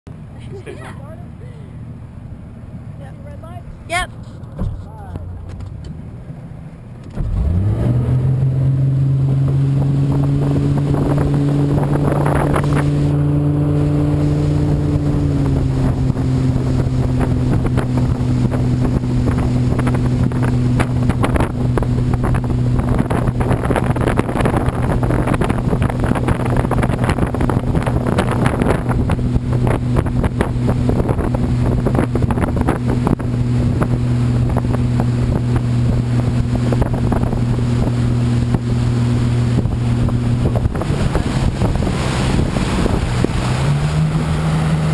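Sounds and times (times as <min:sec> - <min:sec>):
boat engine running: 0:00.1 - 0:44.9
wind on microphone: 0:07.2 - 0:44.9.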